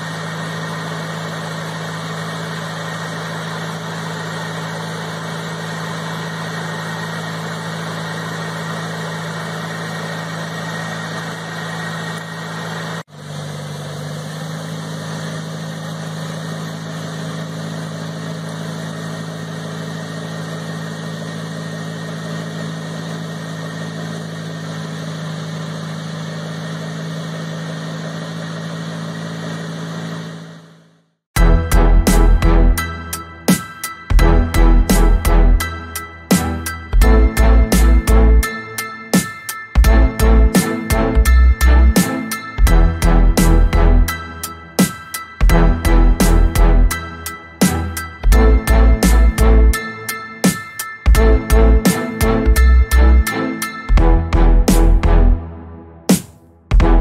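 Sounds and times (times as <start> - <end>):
sprayer engine drone: 0.0 - 56.1.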